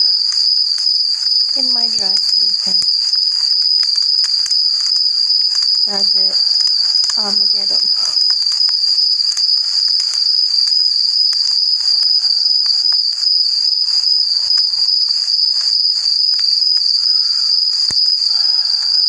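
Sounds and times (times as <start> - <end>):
insects chirring trill: 0.0 - 19.0.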